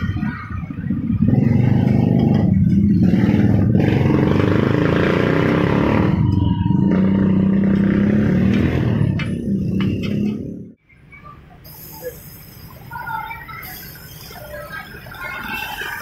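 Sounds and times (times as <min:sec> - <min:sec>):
motor traffic engine noise: 0:00.0 - 0:16.0.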